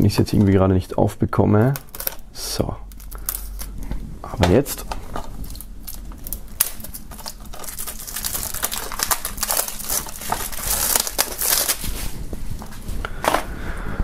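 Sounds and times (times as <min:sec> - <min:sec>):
shrink-wrap crinkling: 0:01.5 - 0:13.5.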